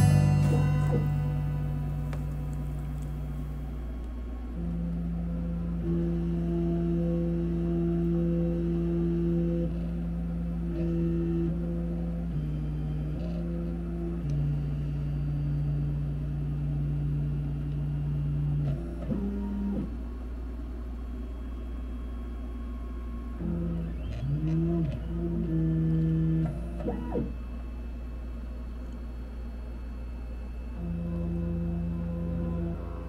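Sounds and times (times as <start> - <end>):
stepper motors whining: 0.0 - 27.6
steady low hum: 0.0 - 33.0.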